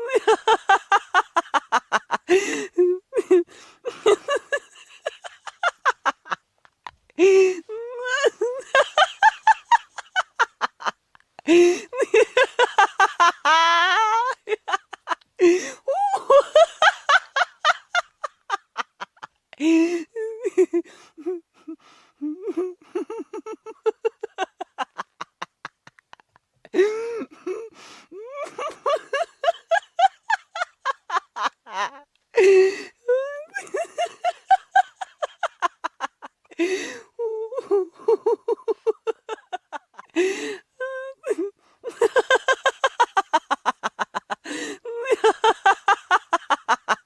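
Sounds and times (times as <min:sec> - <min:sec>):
person laughing: 0:00.0 - 0:06.4, 0:07.2 - 0:47.0.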